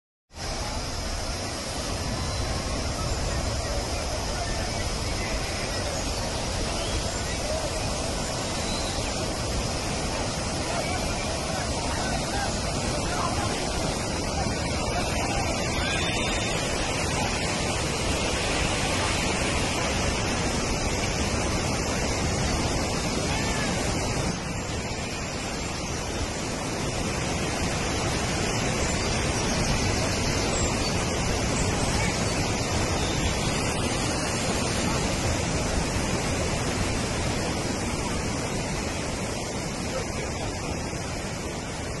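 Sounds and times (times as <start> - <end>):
floodwater rushing over rocks: 0.3 - 42.0.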